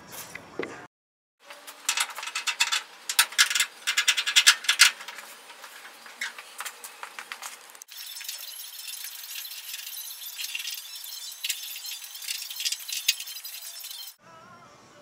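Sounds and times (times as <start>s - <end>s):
hands and tool clicking and scraping: 1.4s - 14.2s.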